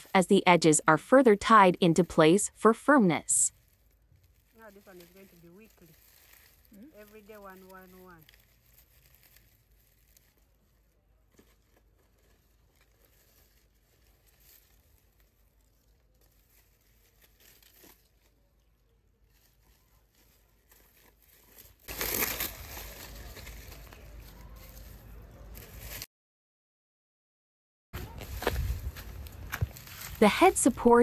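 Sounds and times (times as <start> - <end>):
dry leaves crinkling: 3.5 - 26.1, 28.0 - 31.0.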